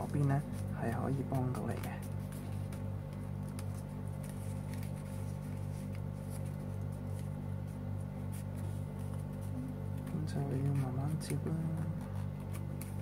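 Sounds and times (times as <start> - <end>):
paper crinkling and rustling: 0.0 - 13.0
steady low hum: 0.0 - 13.0.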